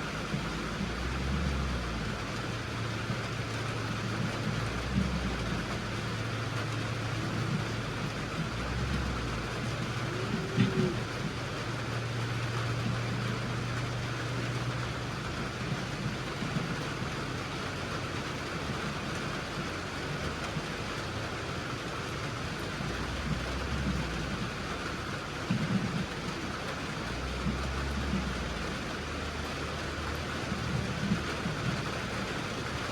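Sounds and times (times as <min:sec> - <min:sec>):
steady rain: 0:00.0 - 0:32.9
vehicle engine humming: 0:00.0 - 0:32.9.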